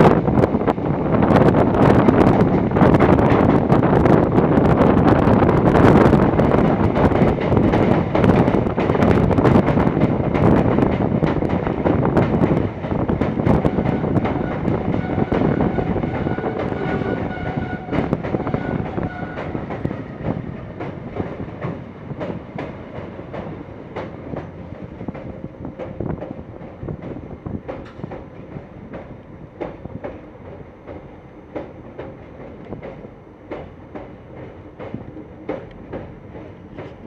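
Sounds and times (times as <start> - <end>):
train wheels clattering over rails: 0.0 - 37.0.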